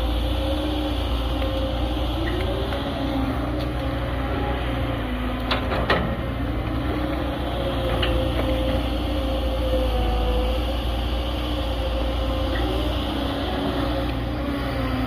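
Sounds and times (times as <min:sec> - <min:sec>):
excavator diesel engine: 0:00.0 - 0:15.0
hydraulic whine: 0:00.0 - 0:15.0.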